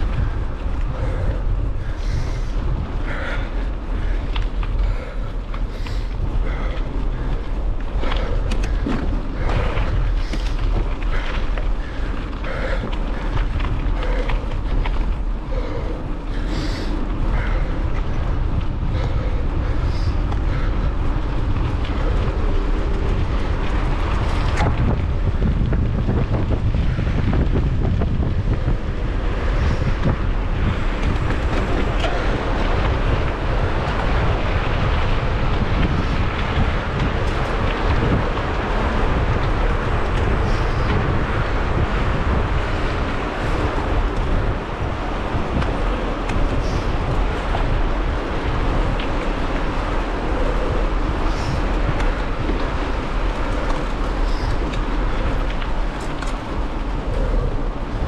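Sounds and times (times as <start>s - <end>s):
mountain bike rolling rumble: 0.0s - 58.0s
wind buffeting microphone: 0.0s - 58.0s.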